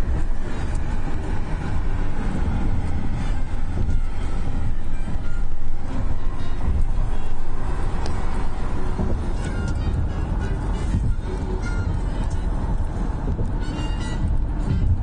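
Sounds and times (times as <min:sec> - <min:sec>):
low wind rumble: 0:00.0 - 0:15.0
road and tyre noise: 0:00.0 - 0:15.0.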